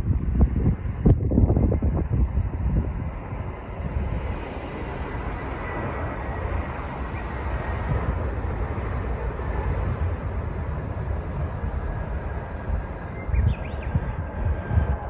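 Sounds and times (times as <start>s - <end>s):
jet engines running: 0.0s - 15.0s
wind rumbling on microphone: 0.0s - 15.0s.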